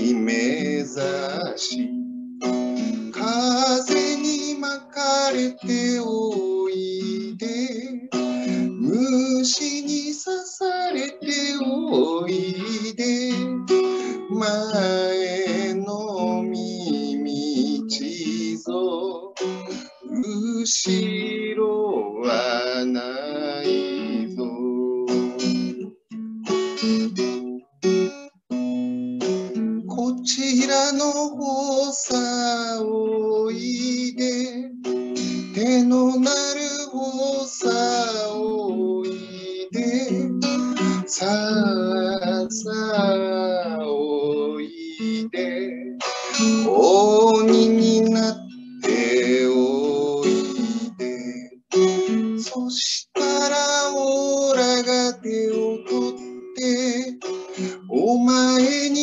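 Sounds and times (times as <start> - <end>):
man singing: 0.0 - 25.9, 29.8 - 59.0
strummed acoustic guitar: 0.0 - 59.0.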